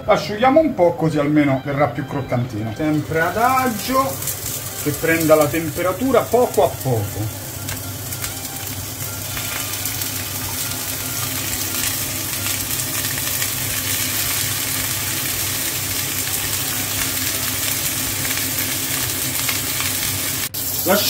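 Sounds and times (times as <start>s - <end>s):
octopus sizzling in hot oil: 2.8s - 21.0s.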